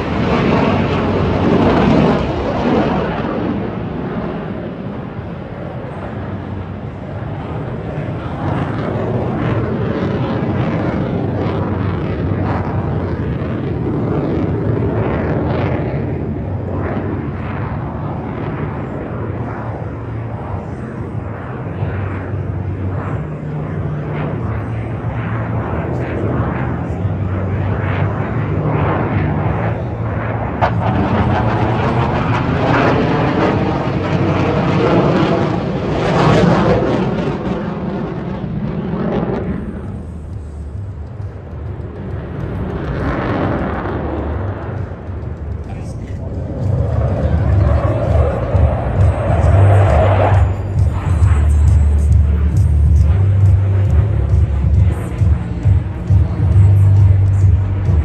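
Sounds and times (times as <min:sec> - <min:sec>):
fighter jet engine: 0:00.0 - 0:58.0.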